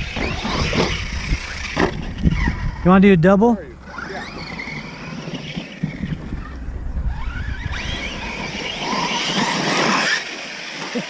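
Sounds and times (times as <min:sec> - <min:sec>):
rc truck motors whining: 0:00.0 - 0:11.0.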